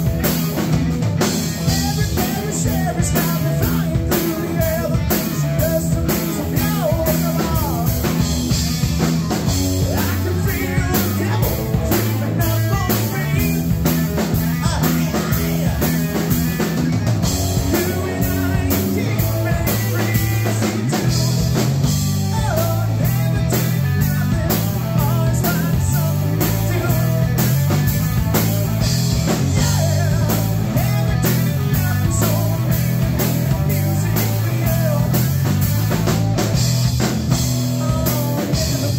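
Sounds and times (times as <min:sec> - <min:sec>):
distorted electric guitar: 0:00.0 - 0:38.9
drum kit with cymbals: 0:00.0 - 0:38.9
electric bass guitar: 0:00.0 - 0:38.9.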